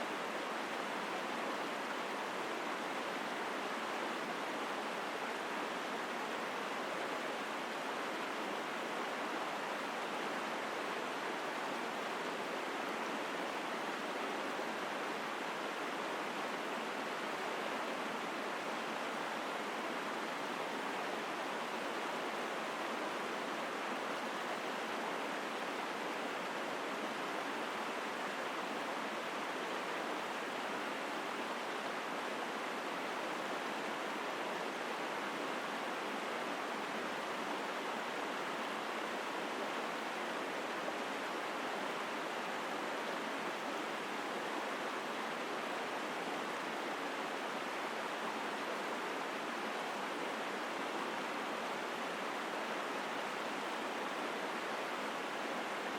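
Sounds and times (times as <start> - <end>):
stream rushing water: 0.0 - 55.9.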